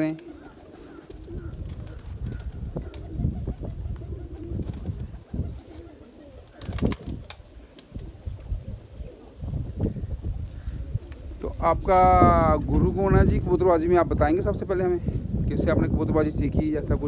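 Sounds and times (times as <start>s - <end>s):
pigeons cooing: 0.0s - 13.8s.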